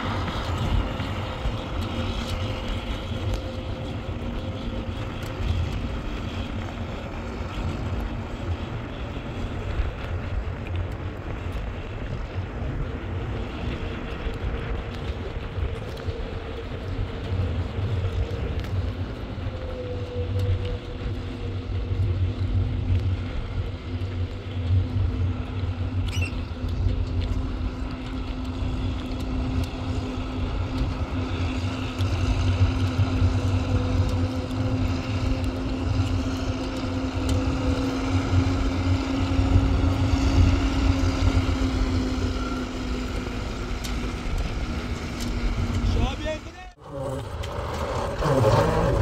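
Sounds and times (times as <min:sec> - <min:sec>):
engine running with low hum: 0:00.0 - 0:49.0.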